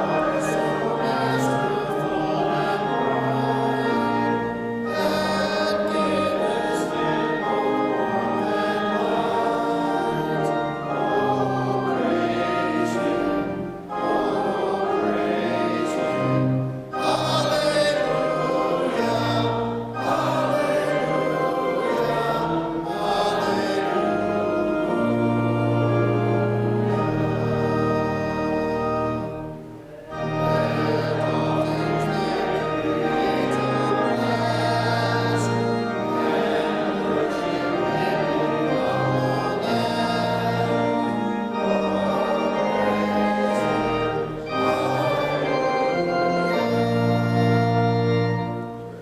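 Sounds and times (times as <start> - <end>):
congregation and choir singing: 0.0 - 49.0
organ: 0.0 - 49.0.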